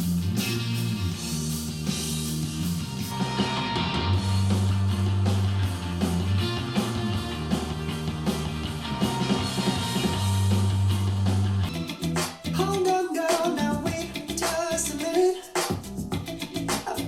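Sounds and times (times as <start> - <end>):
rock-pop song through speaker: 0.0 - 17.0.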